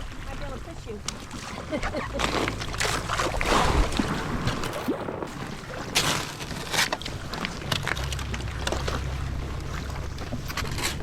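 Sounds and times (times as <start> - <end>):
paddle splashing in water: 0.0 - 11.0
wind rumble on microphone: 1.7 - 11.0.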